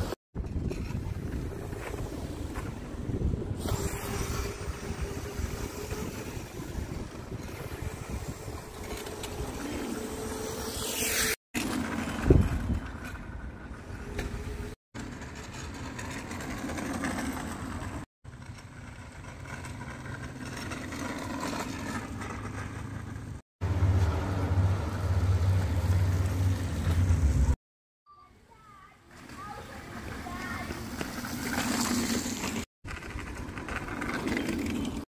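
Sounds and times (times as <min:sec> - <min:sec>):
electric go-karts whirring: 0:00.6 - 0:27.6, 0:29.2 - 0:35.0.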